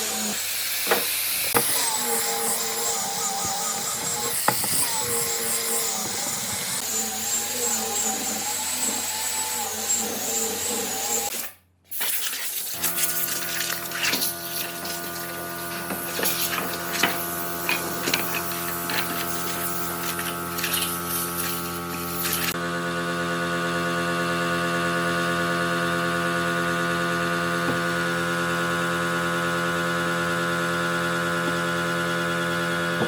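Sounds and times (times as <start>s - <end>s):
power tool motor steady: 0.0s - 11.5s, 12.6s - 33.0s
power tool motor wavering: 0.0s - 11.5s, 12.6s - 33.0s.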